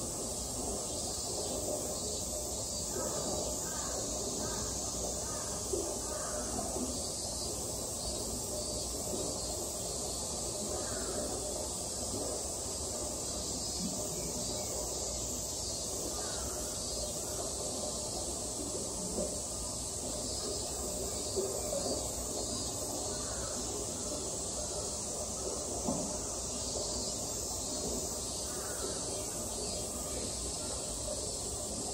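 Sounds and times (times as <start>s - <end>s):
cicadas droning: 0.0s - 31.9s.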